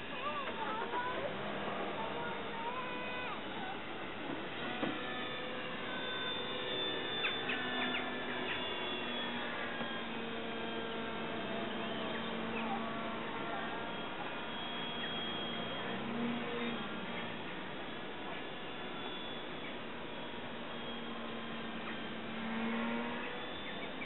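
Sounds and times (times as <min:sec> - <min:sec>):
distant model plane engine droning: 0:00.0 - 0:24.0.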